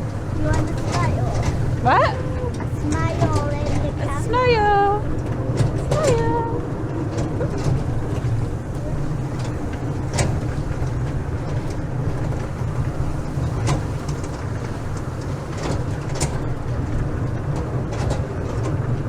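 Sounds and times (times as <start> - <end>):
ride train low rumble: 0.0 - 19.0.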